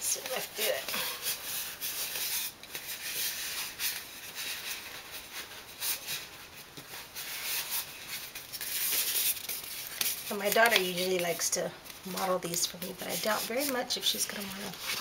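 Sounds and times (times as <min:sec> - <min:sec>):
hands rustling crocheted hat: 0:00.0 - 0:15.0.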